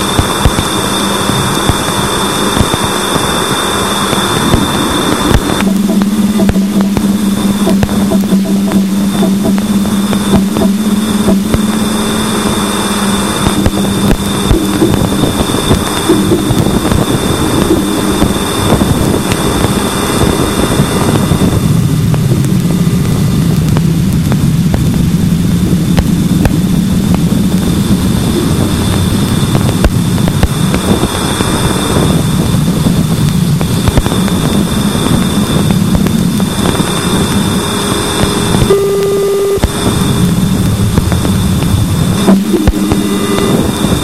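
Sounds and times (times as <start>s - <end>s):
dense low hiss: 0.0s - 44.0s.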